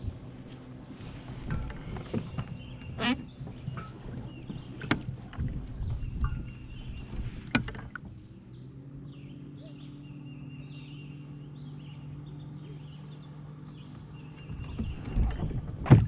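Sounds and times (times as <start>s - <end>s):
songbird chirping: 0.0s - 15.6s.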